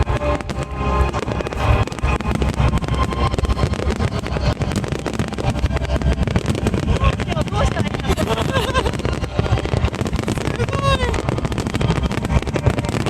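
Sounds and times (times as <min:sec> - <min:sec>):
continuous low rumble: 0:00.0 - 0:13.0
fireworks booming and crackling: 0:00.0 - 0:13.0.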